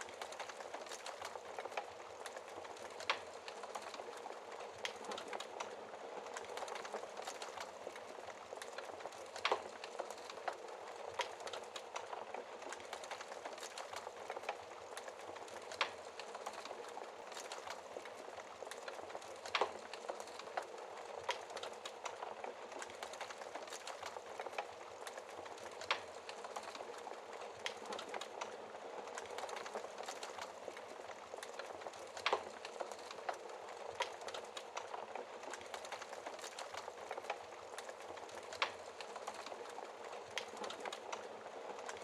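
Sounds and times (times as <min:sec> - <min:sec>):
logs crackling and popping: 0:00.0 - 0:42.0.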